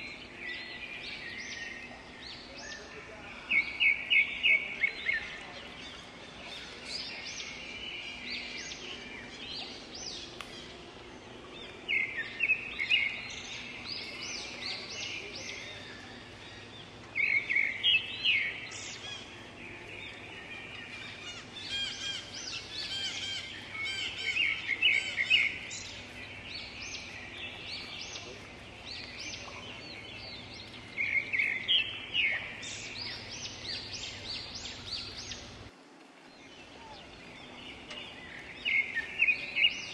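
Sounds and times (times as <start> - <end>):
birds chirping: 0.0 - 39.9
faint low hum: 0.0 - 39.9.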